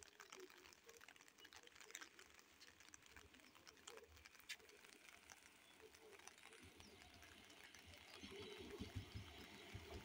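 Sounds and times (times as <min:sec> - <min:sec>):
faint ticks: 0:00.0 - 0:10.0.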